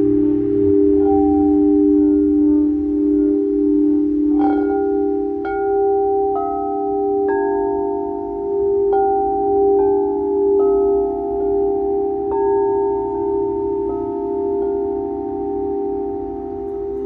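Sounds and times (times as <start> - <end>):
low singing bowls ringing: 0.0 - 17.0
mallet striking singing bowls: 0.0 - 17.0.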